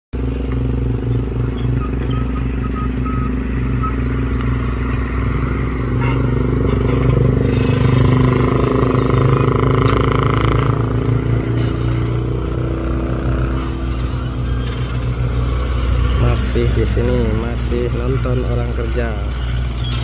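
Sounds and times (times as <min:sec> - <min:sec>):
diesel engine running under strain: 0:00.2 - 0:20.0.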